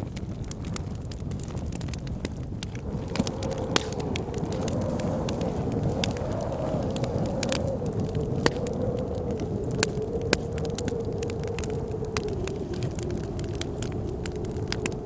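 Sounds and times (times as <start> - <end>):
howling blizzard wind: 0.0 - 15.0
wood fire crackling: 0.0 - 15.0.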